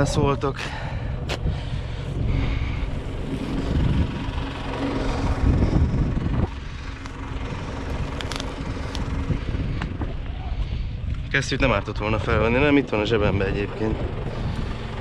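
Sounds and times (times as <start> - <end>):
wind rumbling on microphone: 0.0 - 15.0
tractor engine idling: 0.5 - 12.0, 12.6 - 15.0.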